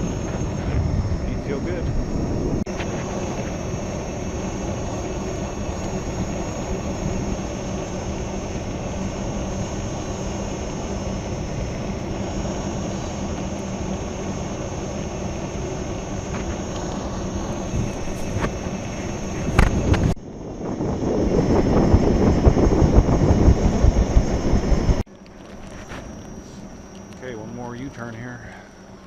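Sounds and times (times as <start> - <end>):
wind rush: 0.0 - 28.4
low hum: 0.0 - 29.0
road rumble: 0.0 - 29.0
thin high motor whine: 0.0 - 29.0.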